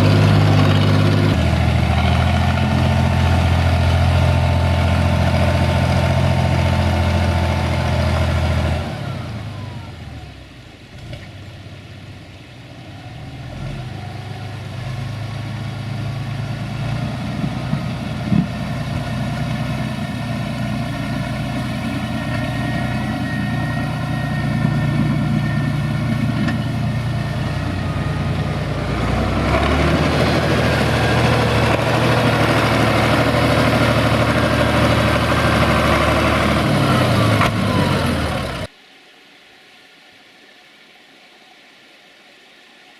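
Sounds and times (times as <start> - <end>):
tractor diesel engine running: 0.0 - 38.7.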